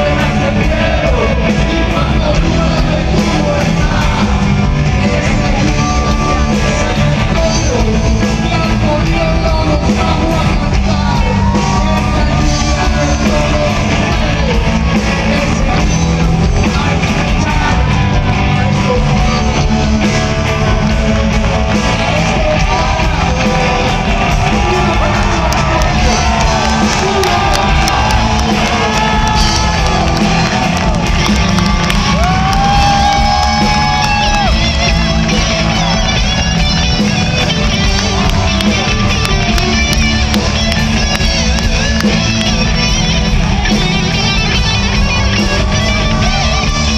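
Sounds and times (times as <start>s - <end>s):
person singing: 0.0s - 43.0s
crowd yelling: 0.0s - 46.9s
live rock band: 0.0s - 46.9s.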